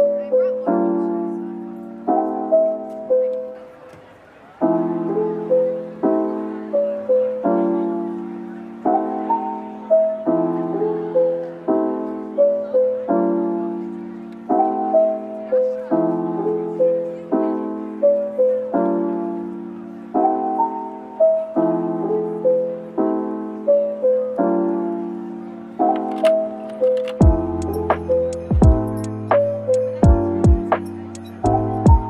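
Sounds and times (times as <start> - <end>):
soft piano piece: 0.0 - 32.0.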